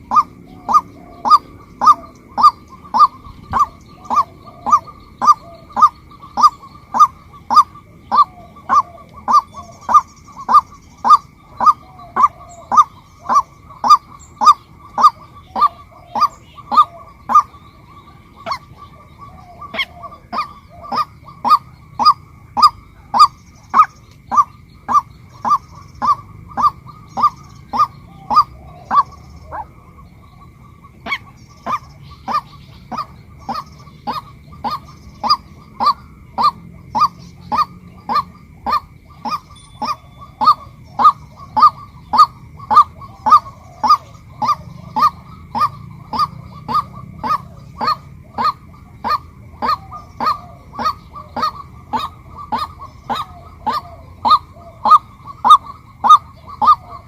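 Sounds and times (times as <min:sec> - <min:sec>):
waterhen calling: 0:00.0 - 0:57.0.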